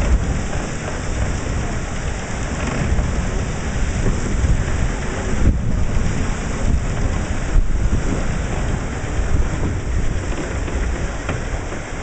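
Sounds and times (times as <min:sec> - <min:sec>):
water rushing off a hull: 0:00.0 - 0:12.0
wind rumble on microphone: 0:00.0 - 0:12.0.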